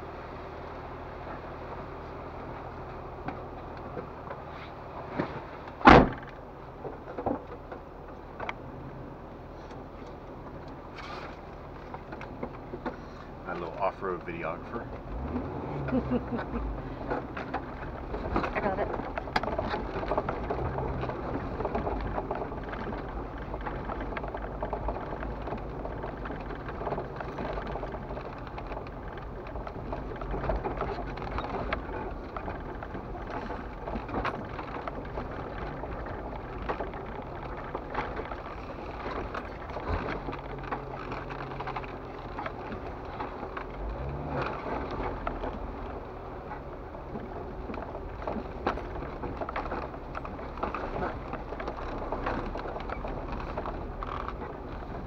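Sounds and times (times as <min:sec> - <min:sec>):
car engine running: 0:00.0 - 0:55.0
tyres crunching over rocky dirt: 0:00.7 - 0:55.0
body and gear rattling: 0:09.6 - 0:55.0.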